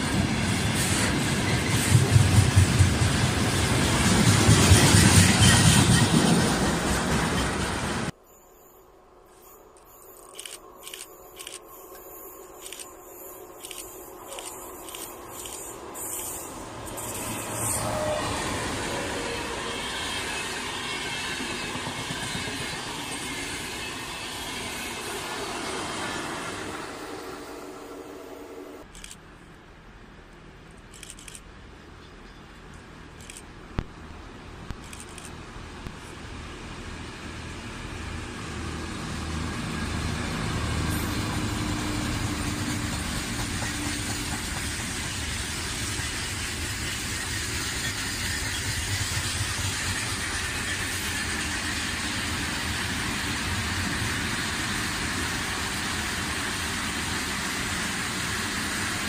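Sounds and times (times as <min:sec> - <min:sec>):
diesel locomotive engines: 0:00.0 - 0:59.0.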